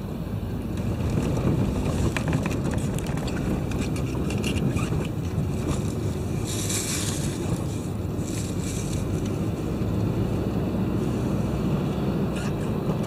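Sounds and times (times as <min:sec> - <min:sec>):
tyres rumbling on wet road: 0:00.0 - 0:13.0.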